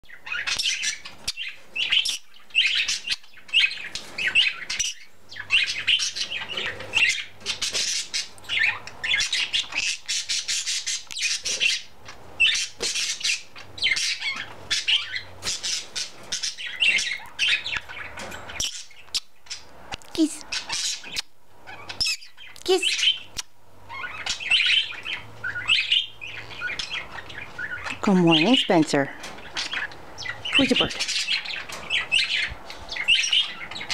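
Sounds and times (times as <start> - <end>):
pet birds chirping and squawking: 0.0 - 33.9.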